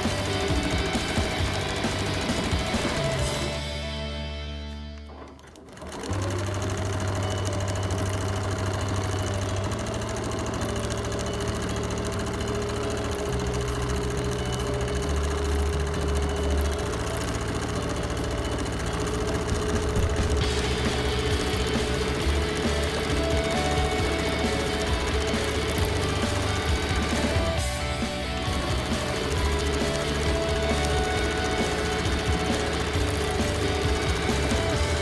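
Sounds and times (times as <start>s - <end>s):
quilting machine stitching: 0.0s - 3.6s, 5.0s - 35.0s.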